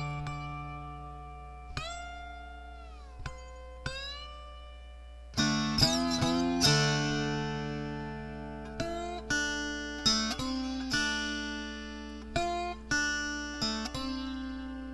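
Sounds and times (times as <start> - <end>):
plucked slide guitar notes: 0.0 - 14.9.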